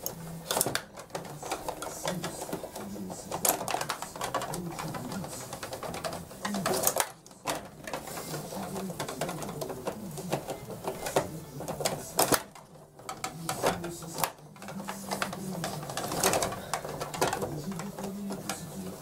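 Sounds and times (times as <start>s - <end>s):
table hockey clicks and knocks: 0.0s - 19.0s.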